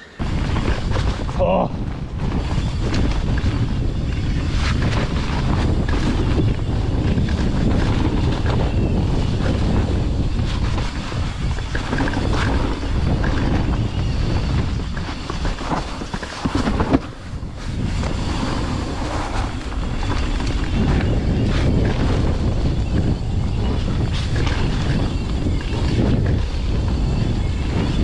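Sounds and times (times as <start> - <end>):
bike tyres rumbling on dirt: 0.0 - 28.0
wind rushing over microphone: 0.0 - 28.0
knocks and rattles over bumps: 0.2 - 26.6.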